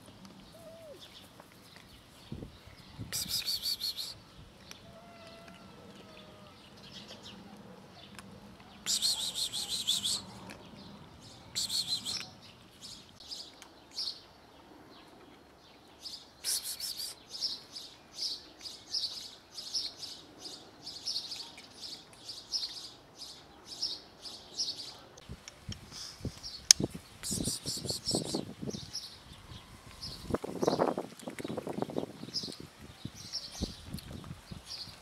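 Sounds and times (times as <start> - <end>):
small birds chirping: 0.2 - 35.0.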